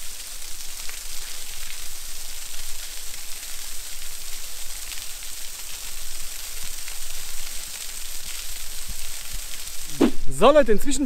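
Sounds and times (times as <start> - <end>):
small waterfall splashing on rocks: 0.0 - 10.7.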